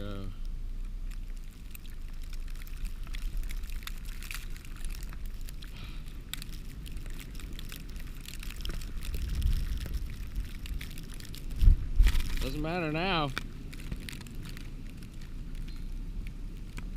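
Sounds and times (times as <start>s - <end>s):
light crackling and crunching: 0.0s - 16.9s
wind rumbling on microphone: 0.0s - 16.9s.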